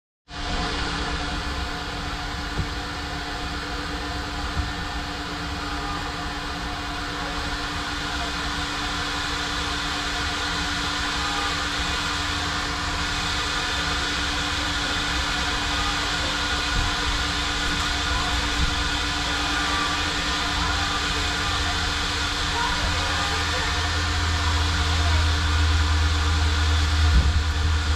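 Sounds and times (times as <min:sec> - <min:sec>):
vacuum running: 0:00.3 - 0:27.9.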